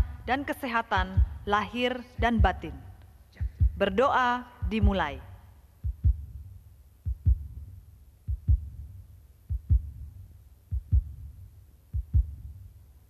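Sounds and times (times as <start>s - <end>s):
heartbeat thumps: 0.0s - 12.8s.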